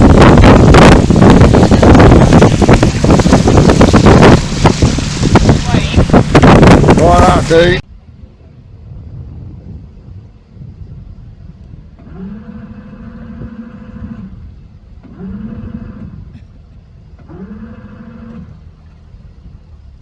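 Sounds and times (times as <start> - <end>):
engine rumble: 0.0 - 20.0
wind: 0.0 - 20.0.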